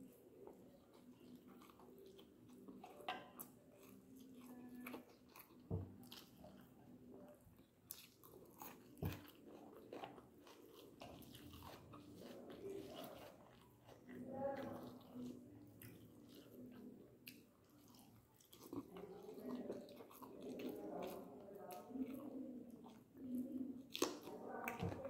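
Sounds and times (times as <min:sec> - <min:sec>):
faint chewing: 0:00.0 - 0:25.0.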